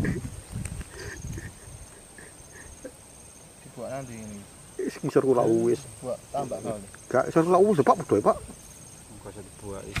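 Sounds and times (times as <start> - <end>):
high insect drone: 0.0 - 10.0
rapid insect trills: 0.0 - 10.0.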